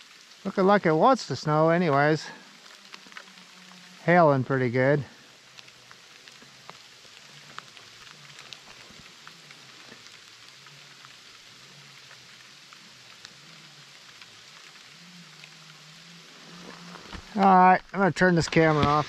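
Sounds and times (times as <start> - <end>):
hail falling through trees: 0.0 - 19.0.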